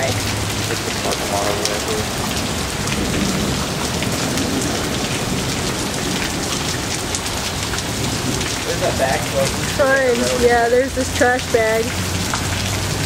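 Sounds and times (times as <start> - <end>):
rushing floodwater: 0.0 - 13.0.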